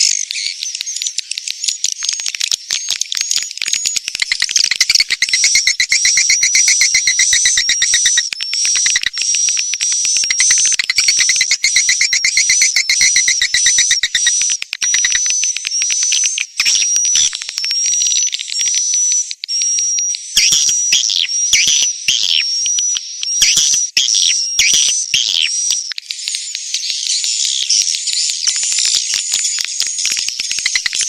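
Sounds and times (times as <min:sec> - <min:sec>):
swiftlets clicking chatter: 0:00.0 - 0:20.8, 0:24.8 - 0:31.0.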